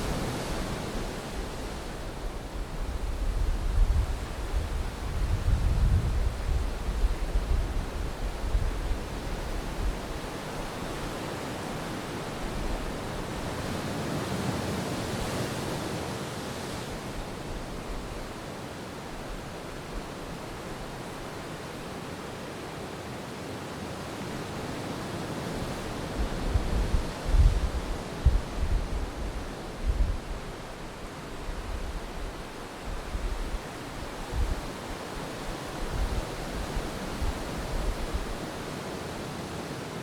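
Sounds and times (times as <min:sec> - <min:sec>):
ocean waves washing ashore: 0:00.0 - 0:05.4, 0:06.2 - 0:40.0
wind rumble on microphone: 0:00.0 - 0:18.4, 0:25.5 - 0:39.6.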